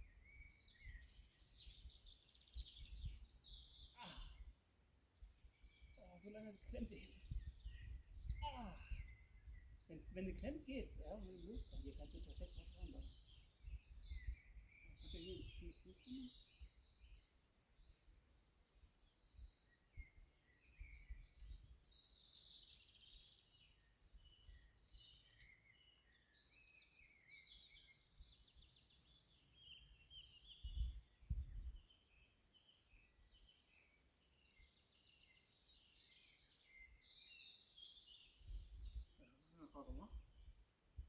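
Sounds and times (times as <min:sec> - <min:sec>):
birds chirping and trilling: 0:00.0 - 0:40.8.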